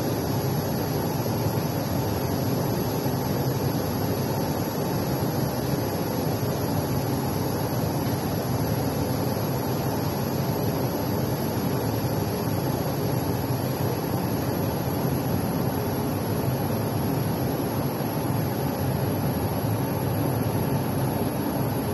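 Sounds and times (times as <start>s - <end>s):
fan rushing air: 0.0s - 21.9s.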